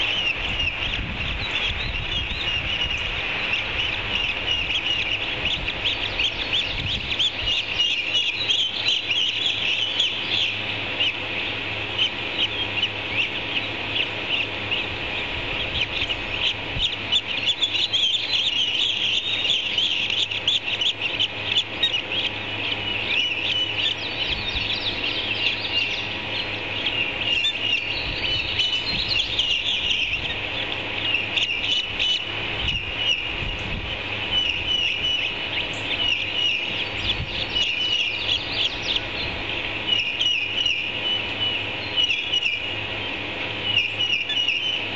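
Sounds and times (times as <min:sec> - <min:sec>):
ospreys chirping: 0:00.0 - 0:44.9.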